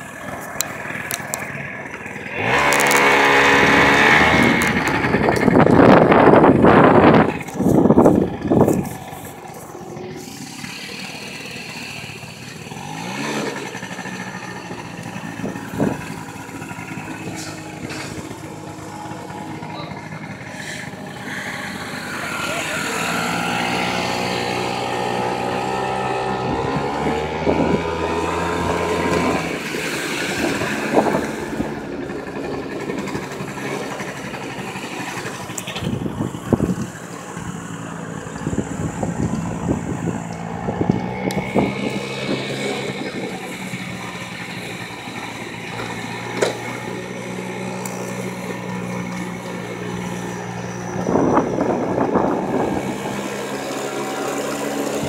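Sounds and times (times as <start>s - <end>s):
scooter engines revving: 0.0s - 55.0s.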